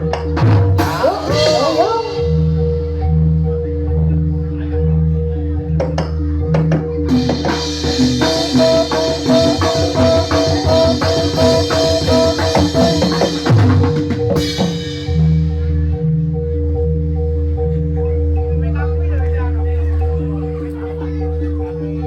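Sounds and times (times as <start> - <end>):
gamelan drums: 0.0 - 22.0.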